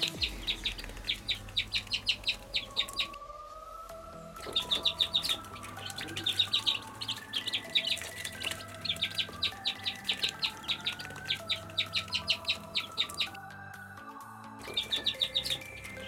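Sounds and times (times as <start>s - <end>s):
chick peeping: 0.0s - 3.2s, 4.4s - 13.4s, 14.6s - 16.0s
background music with held notes: 0.0s - 16.0s.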